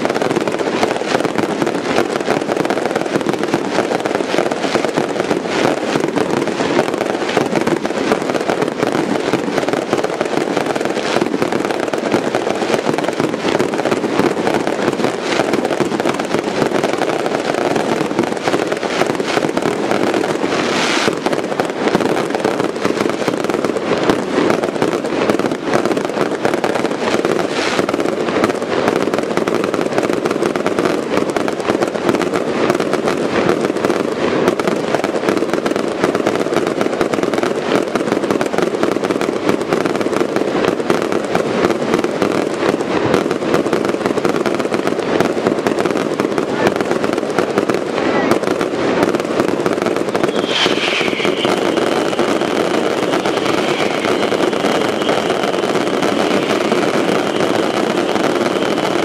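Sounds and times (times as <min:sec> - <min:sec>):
fireworks bangs and crackling: 0:00.0 - 0:59.0
fireworks hissing bursts: 0:00.0 - 0:59.0.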